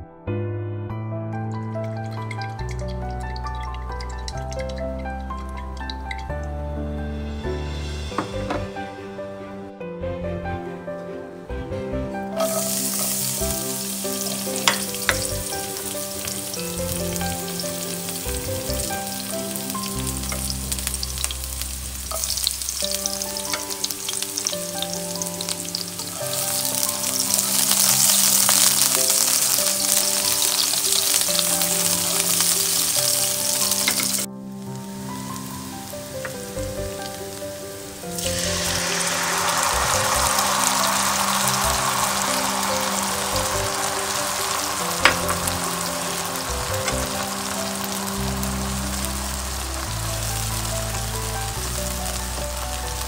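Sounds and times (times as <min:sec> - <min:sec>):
shallots and garlic sizzling in oil: 0:01.6 - 0:06.5, 0:12.3 - 0:53.0.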